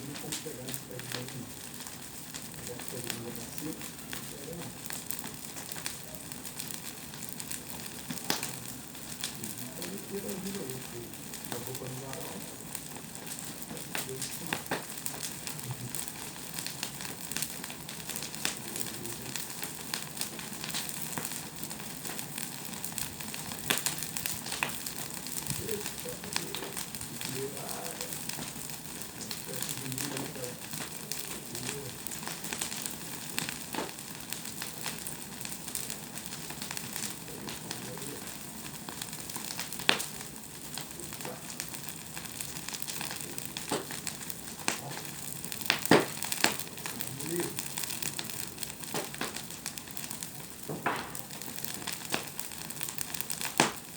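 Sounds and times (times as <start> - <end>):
bonfire crackling and popping: 0.0 - 53.9.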